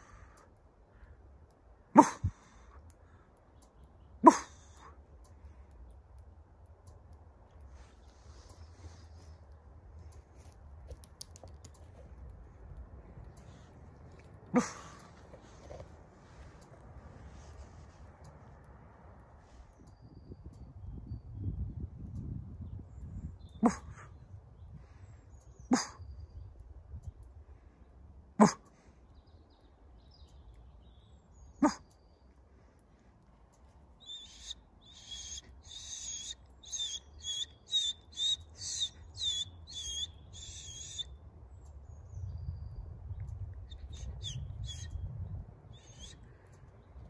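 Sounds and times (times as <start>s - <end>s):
low outdoor rumble: 0.0s - 47.0s
songbird chirping: 0.0s - 47.0s.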